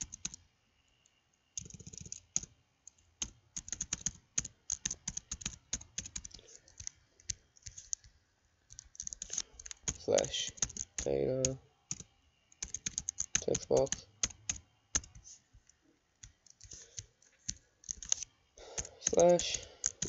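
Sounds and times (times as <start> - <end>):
typing on computer keyboard: 0.0 - 0.4, 1.6 - 8.1, 8.7 - 15.2, 16.2 - 20.0.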